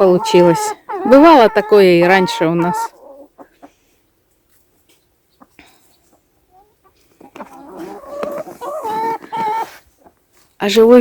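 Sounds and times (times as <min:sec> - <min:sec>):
hens clucking: 0:00.0 - 0:10.6.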